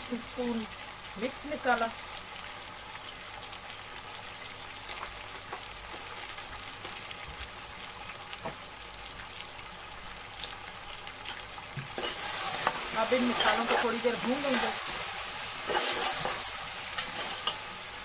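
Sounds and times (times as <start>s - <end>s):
oil sizzling with pops: 0.0s - 18.0s.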